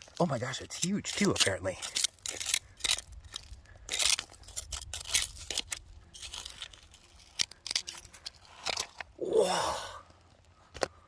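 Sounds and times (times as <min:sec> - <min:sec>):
scraping and crunching of stone: 0:00.0 - 0:09.2.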